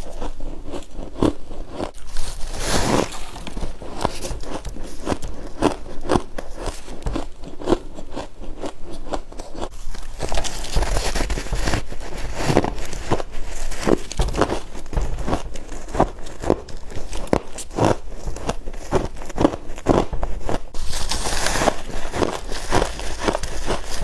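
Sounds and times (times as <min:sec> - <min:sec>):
frost being chewed crunching: 0:00.0 - 0:24.0.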